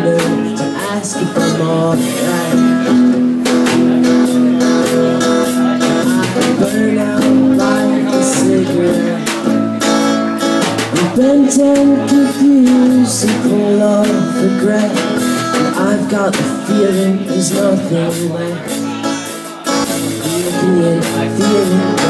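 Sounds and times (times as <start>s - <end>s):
acoustic guitar strummed: 0.0s - 22.0s
man singing: 0.0s - 22.0s
drums and cymbals: 0.1s - 22.0s.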